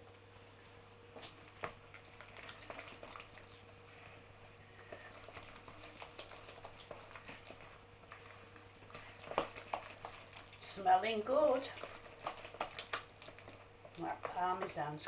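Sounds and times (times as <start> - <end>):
utensil squelching mash: 1.0 - 15.0.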